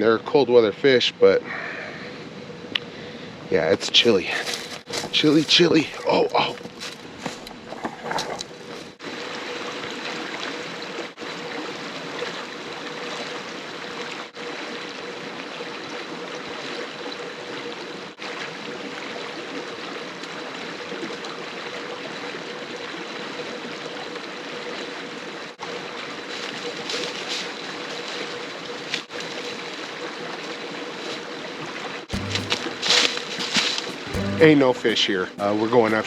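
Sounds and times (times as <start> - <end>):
stream running over rocks: 3.6 - 34.1.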